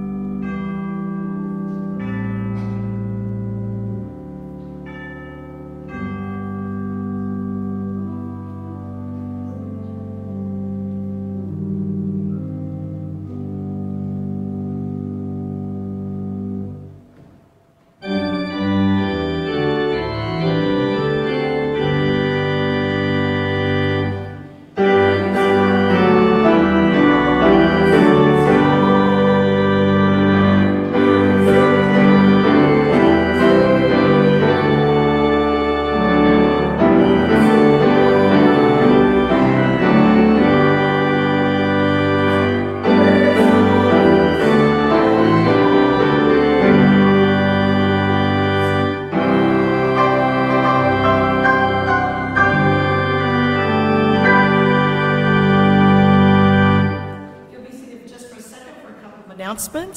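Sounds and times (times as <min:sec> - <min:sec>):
organ playing sustained chords: 0:00.0 - 0:58.5.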